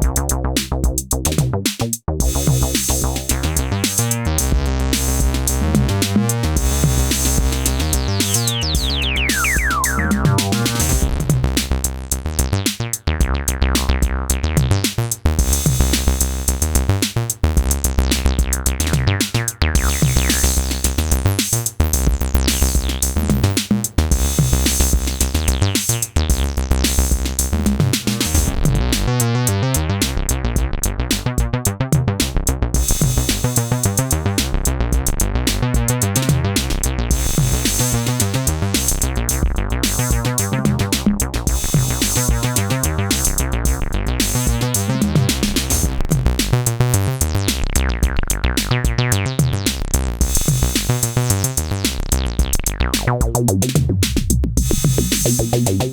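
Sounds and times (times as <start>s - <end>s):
drum machine beat: 0.0s - 55.9s
synthesizer bass line: 0.0s - 55.9s
filter sweep: 2.2s - 31.5s, 32.2s - 53.8s, 54.6s - 55.9s.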